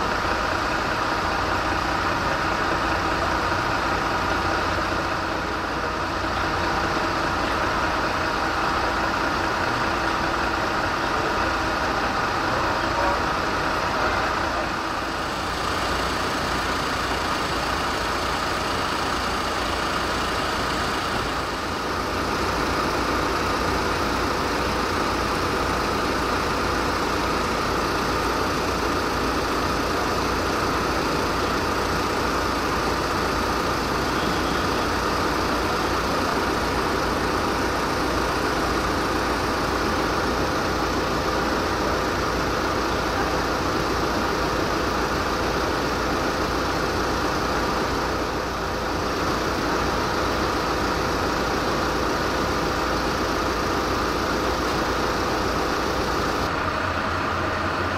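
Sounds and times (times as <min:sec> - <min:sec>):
heavy engines idling: 0:00.0 - 0:57.9.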